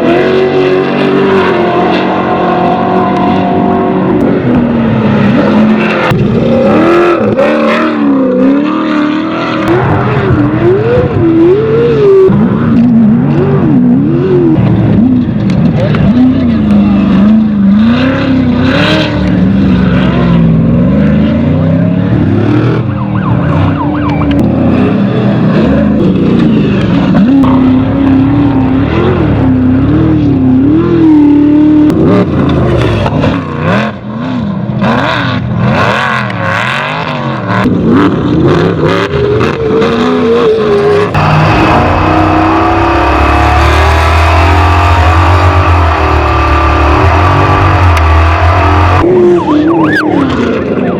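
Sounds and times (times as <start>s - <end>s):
race vehicle engines revving: 0.0s - 50.9s.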